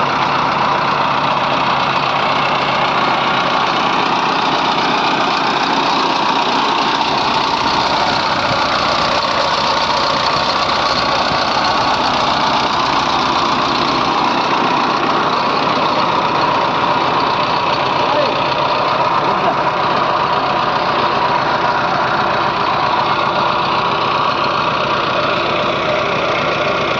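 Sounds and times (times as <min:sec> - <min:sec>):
diesel engine running loudly: 0:00.0 - 0:26.9.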